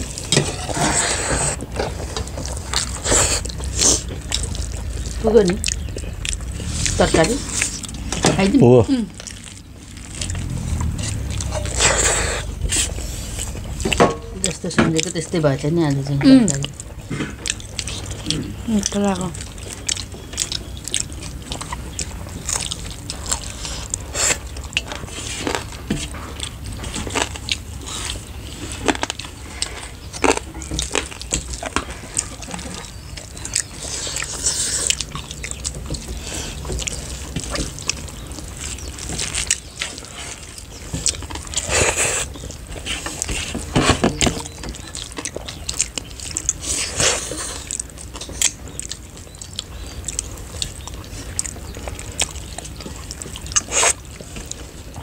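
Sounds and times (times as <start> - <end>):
people chewing: 0.0 - 55.0.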